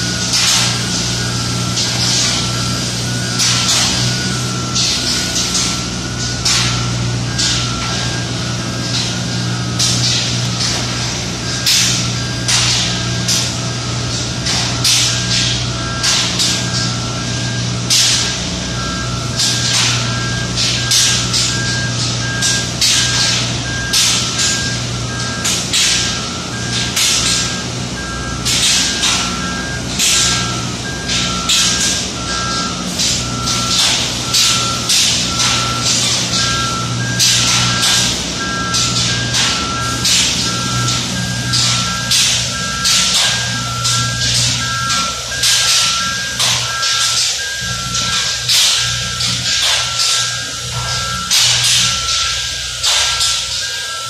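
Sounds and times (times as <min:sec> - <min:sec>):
low machinery hum: 0:00.0 - 0:54.0
two-tone back-up alarm beeping: 0:00.0 - 0:54.0.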